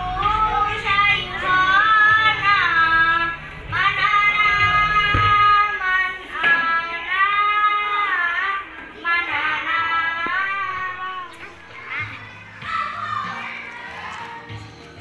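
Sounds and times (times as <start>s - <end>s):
boy singing into microphone: 0.0s - 14.9s.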